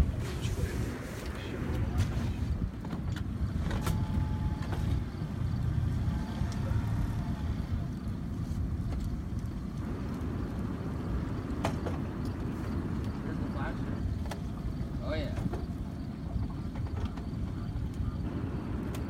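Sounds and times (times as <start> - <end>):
boat engine rumble: 0.0 - 19.0.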